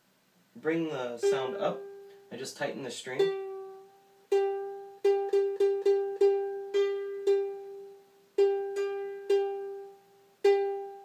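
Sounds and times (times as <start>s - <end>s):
ukulele string plucked: 1.1s - 2.3s, 3.1s - 11.0s.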